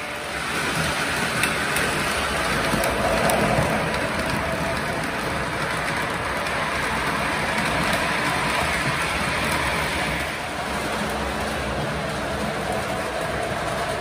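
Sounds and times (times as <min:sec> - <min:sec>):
model train wheels clattering: 0:00.0 - 0:14.0.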